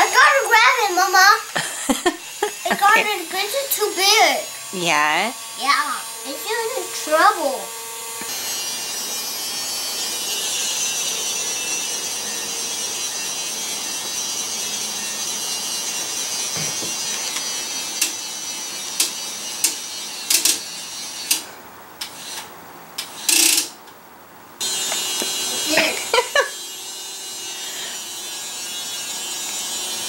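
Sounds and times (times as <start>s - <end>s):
toy electric motor whirring: 0.0s - 23.8s, 24.6s - 30.0s.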